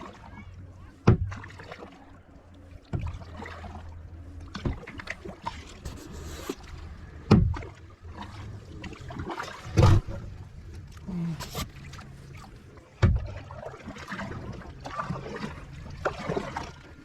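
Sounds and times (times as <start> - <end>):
kayak paddling in water: 0.0 - 17.0.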